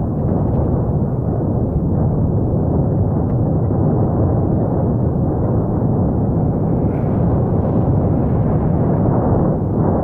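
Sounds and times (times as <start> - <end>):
volcano deep rumble: 0.0 - 10.0.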